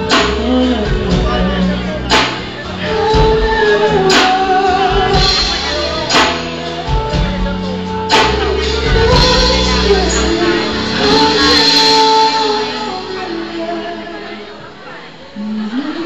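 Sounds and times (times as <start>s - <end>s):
live band music: 0.0s - 15.9s
man singing: 0.0s - 16.0s.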